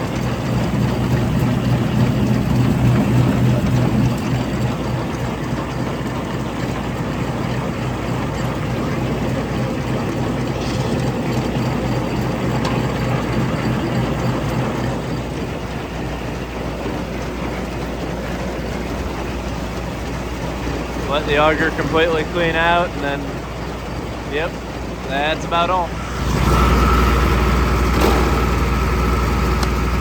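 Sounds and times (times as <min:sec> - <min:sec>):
auger unloading feed: 0:00.0 - 0:30.0
tractor engine running: 0:00.0 - 0:30.0.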